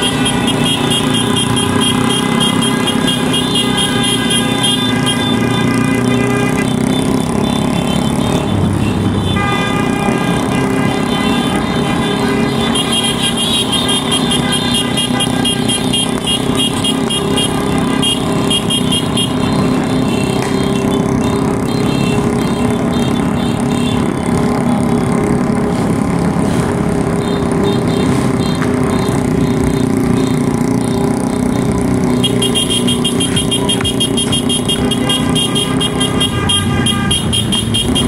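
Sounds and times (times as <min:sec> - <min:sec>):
motorcycle engines running: 0:00.0 - 0:38.0
motorcycle horns sounding: 0:00.0 - 0:38.0.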